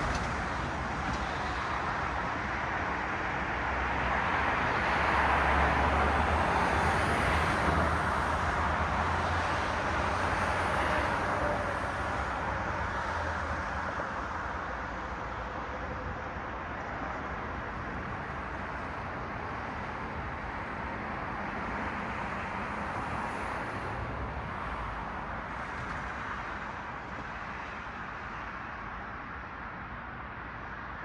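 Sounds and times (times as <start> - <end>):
cars passing on street: 0.0 - 31.0.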